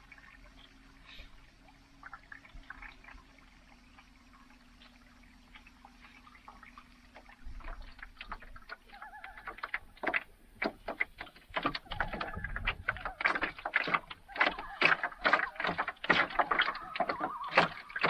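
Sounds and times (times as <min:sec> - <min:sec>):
low steady hum: 0:00.0 - 0:18.0
small clicks and splashes: 0:00.0 - 0:18.0
water trickling and lapping: 0:00.0 - 0:18.0.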